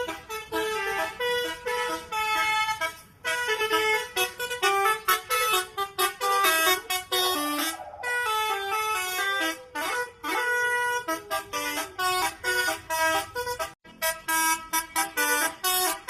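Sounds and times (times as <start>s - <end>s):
multi-tone bus air horns playing tunes: 0.0s - 16.0s.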